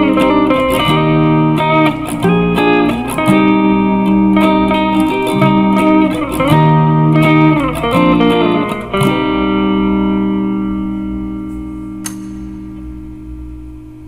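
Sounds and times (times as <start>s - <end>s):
plucked guitar music: 0.0s - 13.8s.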